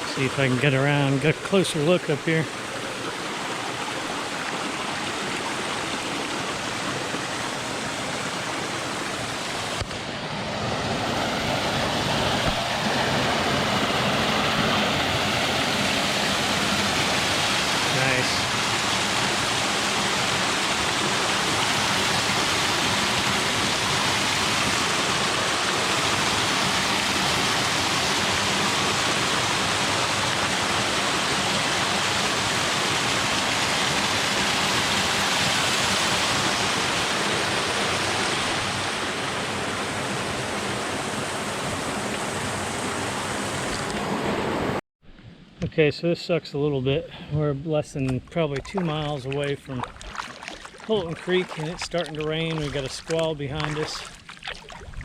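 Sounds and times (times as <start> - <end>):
small waterfall rushing: 0.0 - 44.8, 48.7 - 54.8.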